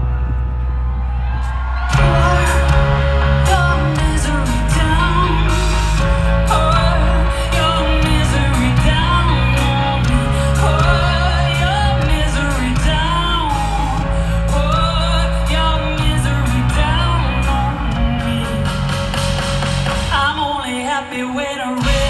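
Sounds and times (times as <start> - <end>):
live rock band playing: 0.0 - 22.0
woman singing: 1.9 - 19.3, 19.9 - 22.0.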